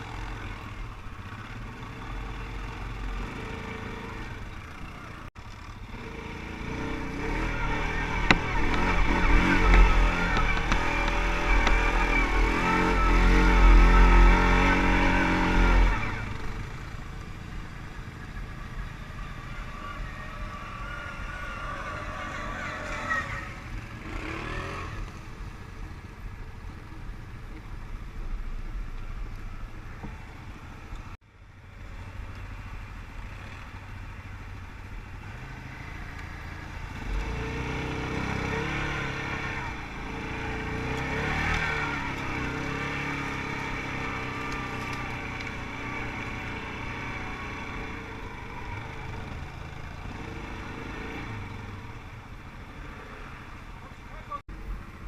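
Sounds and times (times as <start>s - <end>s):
quad bike engine revving: 0.0s - 25.5s, 35.2s - 54.4s.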